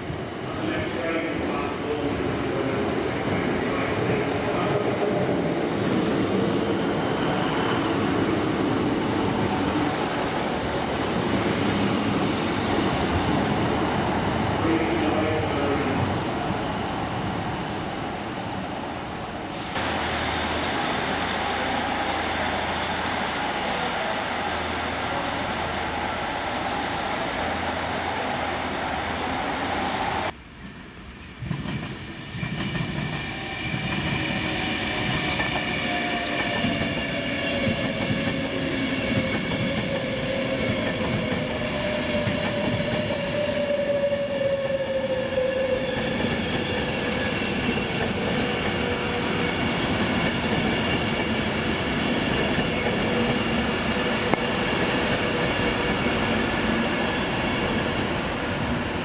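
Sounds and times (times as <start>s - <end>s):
rail and wheel noise: 0.0s - 59.0s.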